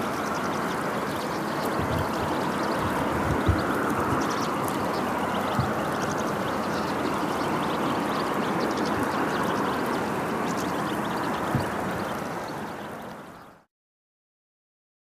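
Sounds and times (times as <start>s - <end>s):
steady rushing noise: 0.0s - 13.1s
finches twittering: 0.0s - 13.6s.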